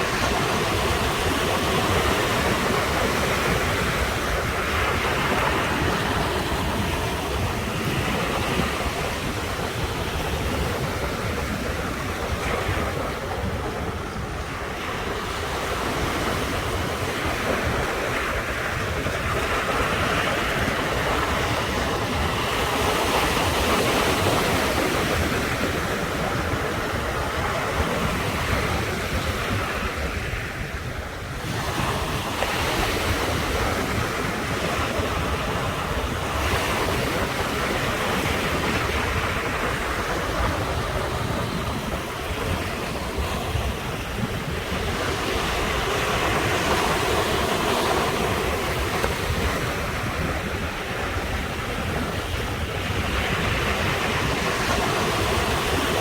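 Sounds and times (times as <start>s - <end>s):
sea surf breaking: 0.0s - 56.0s
wind rumbling on microphone: 0.0s - 56.0s.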